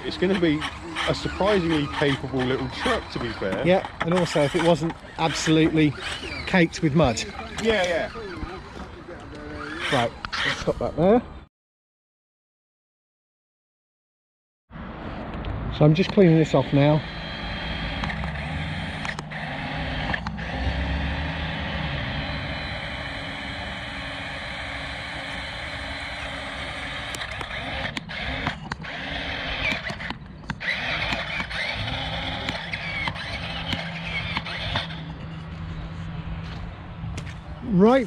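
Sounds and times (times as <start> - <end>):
motor running steadily: 0.0 - 11.3, 16.0 - 38.0.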